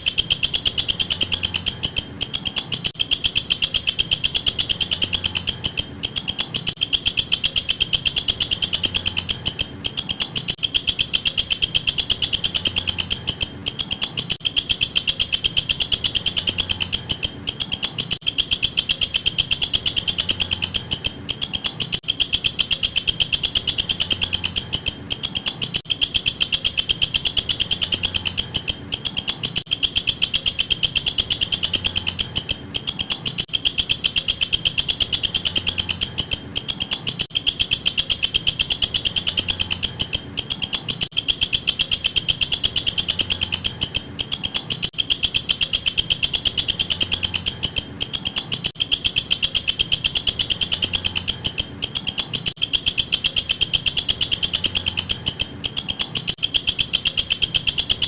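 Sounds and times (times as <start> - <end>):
katydid calling: 0.0 - 58.0.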